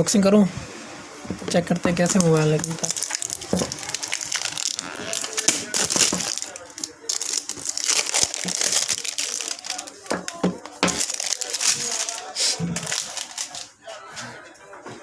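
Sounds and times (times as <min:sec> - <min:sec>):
packaging crinkling and rustling: 0:01.3 - 0:13.7.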